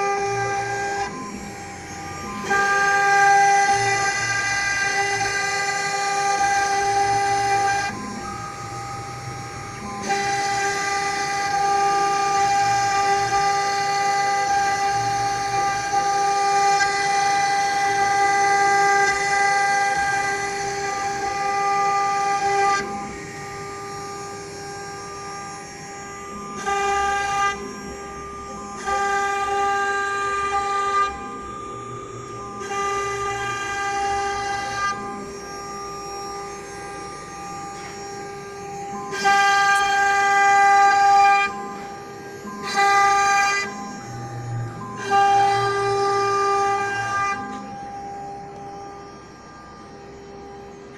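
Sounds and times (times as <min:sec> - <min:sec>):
router spindle whining: 0:00.0 - 0:50.9.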